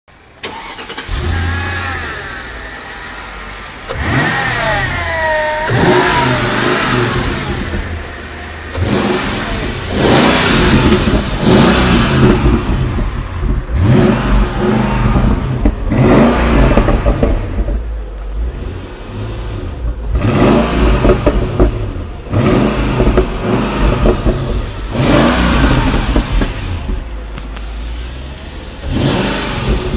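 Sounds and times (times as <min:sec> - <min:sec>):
car engine revving and idling: 0:00.1 - 0:29.9.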